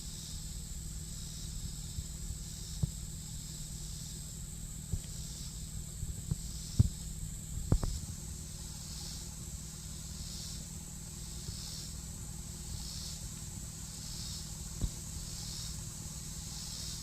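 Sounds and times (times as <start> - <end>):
insects high hiss: 0.0 - 17.0
pulsed insect buzz: 0.0 - 17.0.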